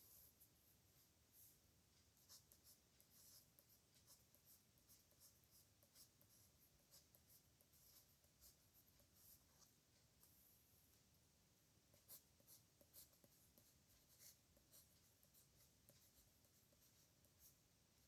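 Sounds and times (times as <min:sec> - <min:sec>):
pen scratching on paper: 0:01.3 - 0:10.4, 0:12.0 - 0:17.6.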